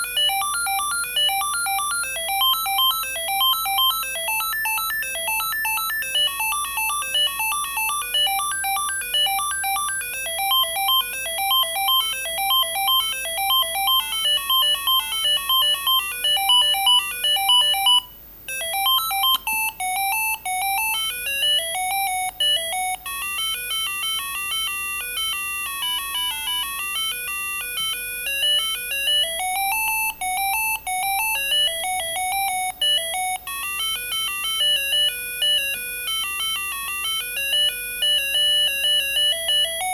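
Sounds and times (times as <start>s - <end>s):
mobile phone ringtone melody: 0.0s - 39.9s.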